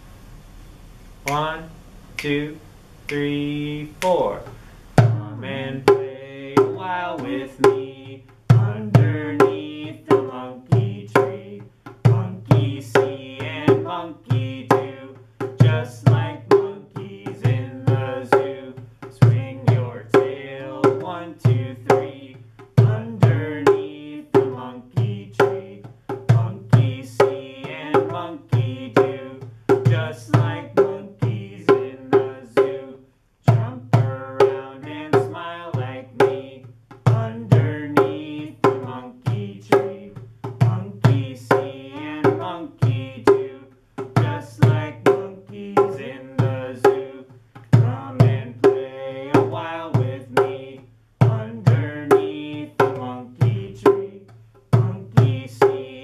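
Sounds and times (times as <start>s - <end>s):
people singing a children's song: 1.3s - 56.0s
hand drum beat: 4.0s - 56.0s.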